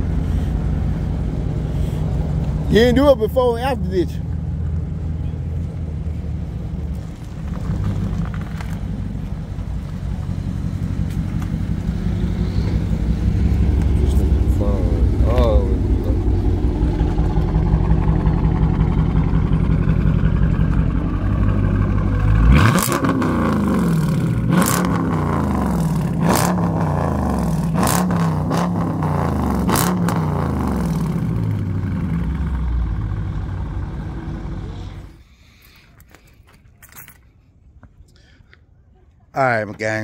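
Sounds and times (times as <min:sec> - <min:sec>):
car engine idling and revving: 0:00.0 - 0:35.4.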